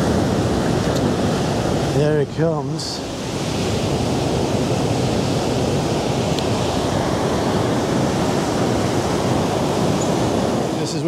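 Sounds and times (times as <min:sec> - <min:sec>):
waves breaking on rocky shore: 0:00.0 - 0:11.0.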